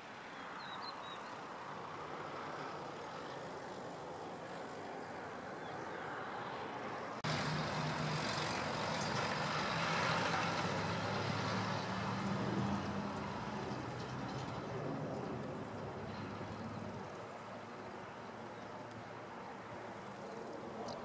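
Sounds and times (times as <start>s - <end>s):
jet engines low hum and hiss: 0.0s - 21.0s
distant jet noise: 1.4s - 21.0s.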